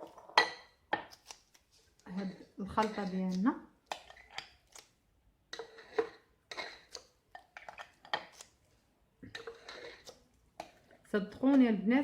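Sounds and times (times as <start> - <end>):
spoon scraping a glass jar: 0.0 - 4.9, 5.5 - 8.6, 9.2 - 11.1.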